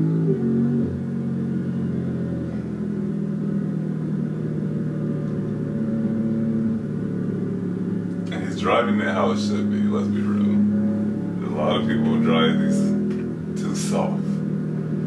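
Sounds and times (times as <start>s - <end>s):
car engine cruising from inside: 0.0s - 15.0s.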